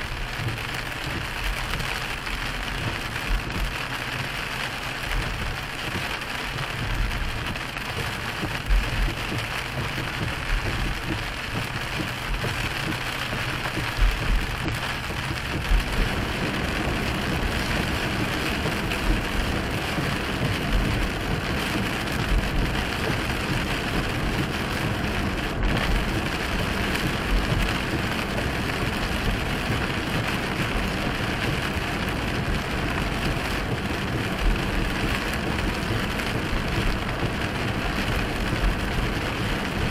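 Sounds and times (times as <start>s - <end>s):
heavy rain on car windshield: 0.0s - 39.9s
tyres hissing on wet road: 0.0s - 39.9s.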